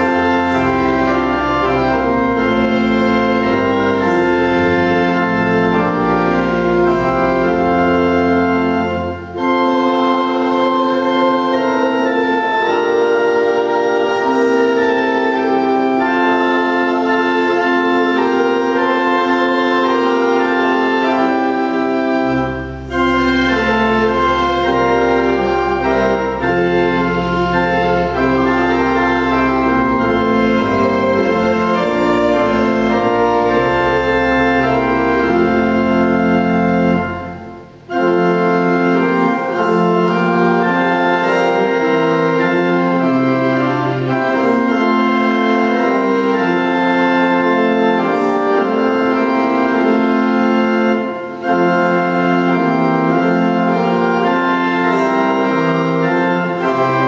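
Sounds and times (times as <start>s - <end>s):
church organ chords: 0.0s - 57.0s.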